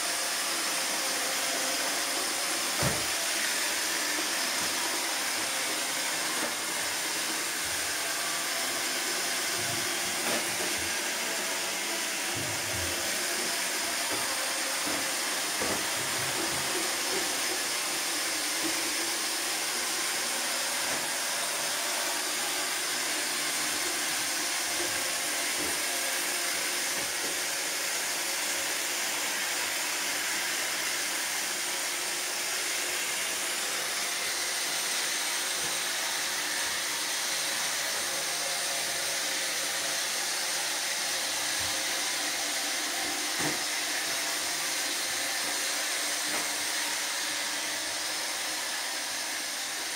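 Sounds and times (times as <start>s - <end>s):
robot vacuum whirring: 0.1s - 49.9s.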